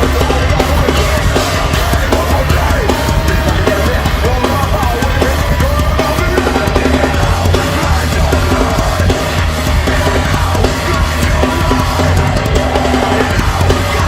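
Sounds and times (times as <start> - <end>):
distorted guitars: 0.0 - 14.0
fast dense drumming: 0.0 - 14.0.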